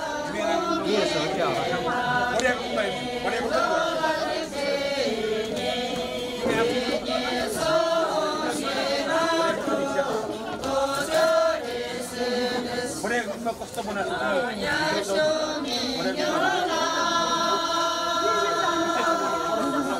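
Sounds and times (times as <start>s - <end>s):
group singing chant-like melody: 0.0s - 19.9s.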